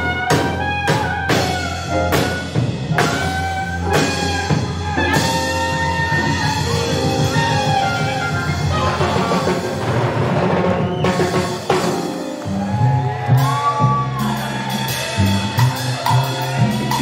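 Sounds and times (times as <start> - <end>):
band playing: 0.0 - 17.0.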